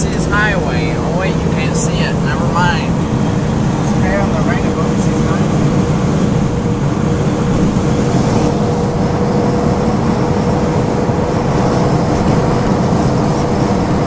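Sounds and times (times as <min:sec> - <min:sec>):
road and wind noise in car: 0:00.0 - 0:14.0.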